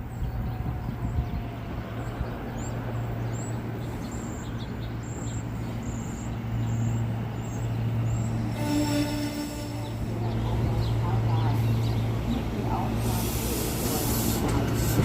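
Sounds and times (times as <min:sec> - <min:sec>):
train humming and rumbling: 0:00.0 - 0:15.0.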